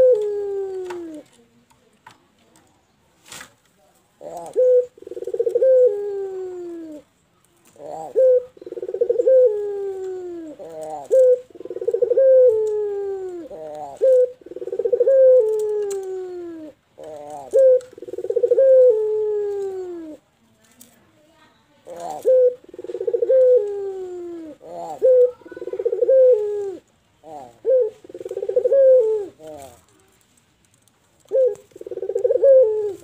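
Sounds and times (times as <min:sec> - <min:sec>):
dove cooing: 0:00.0 - 0:01.4, 0:04.2 - 0:07.1, 0:07.7 - 0:20.2, 0:21.8 - 0:30.1, 0:31.2 - 0:33.0.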